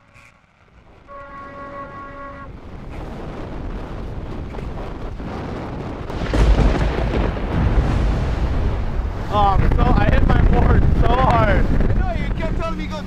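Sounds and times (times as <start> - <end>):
ocean wave breaking: 1.4 - 13.0.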